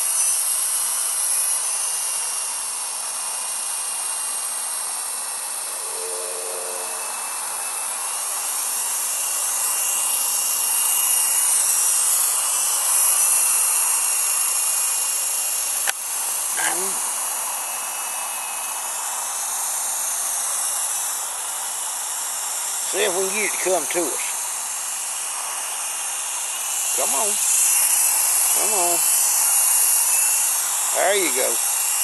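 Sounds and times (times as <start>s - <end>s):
toy helicopter motor whine: 0.0s - 32.0s.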